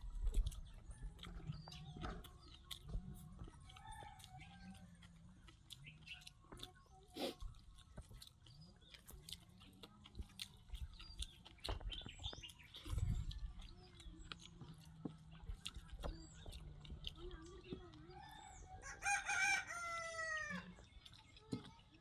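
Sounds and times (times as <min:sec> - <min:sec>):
person chewing food: 0:00.0 - 0:22.0
small birds chirping: 0:00.0 - 0:22.0.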